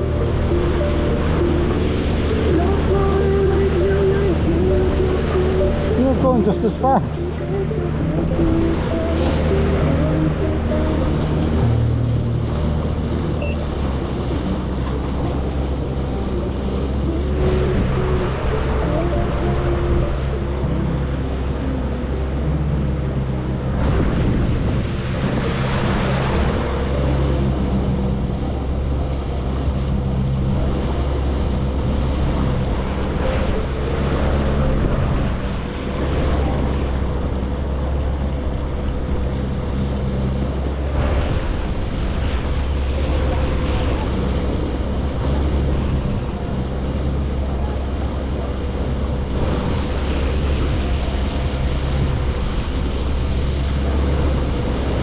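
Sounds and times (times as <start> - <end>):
jet ski engine drone: 0.0 - 55.0
rushing water: 0.0 - 55.0
wind on microphone: 0.0 - 55.0.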